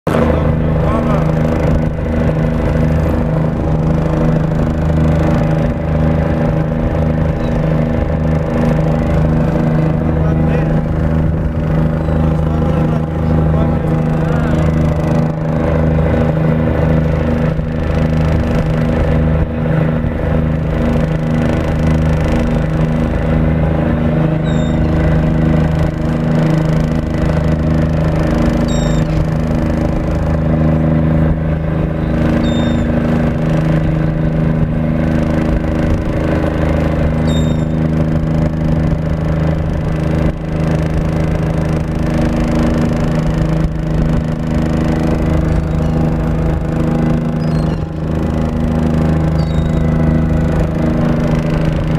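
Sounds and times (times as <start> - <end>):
ship engines droning: 0.1 - 51.9.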